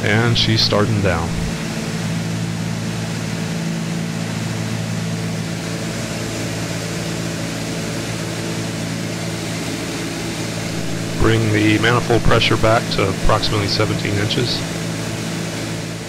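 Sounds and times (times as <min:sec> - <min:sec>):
twin propeller engines droning: 0:00.0 - 0:16.0.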